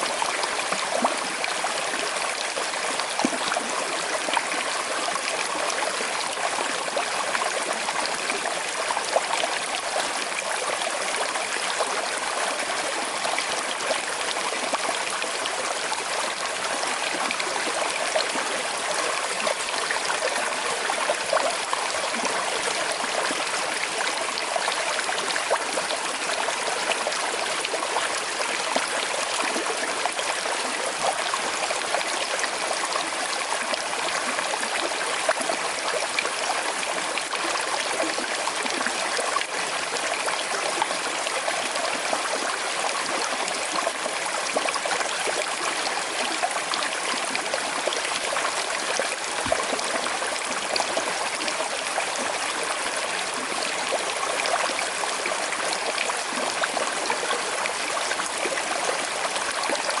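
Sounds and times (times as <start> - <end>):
river flowing over stones: 0.0 - 60.0.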